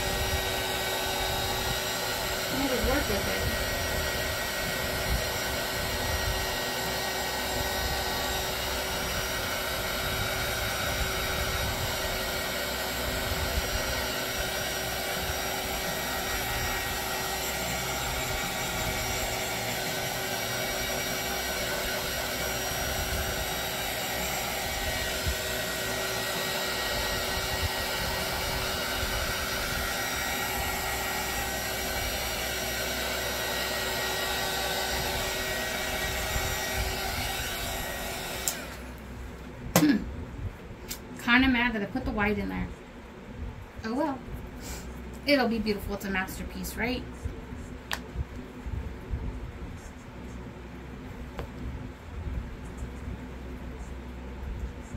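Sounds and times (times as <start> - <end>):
hair dryer running: 0.0 - 40.1, 43.9 - 48.8, 51.0 - 51.7.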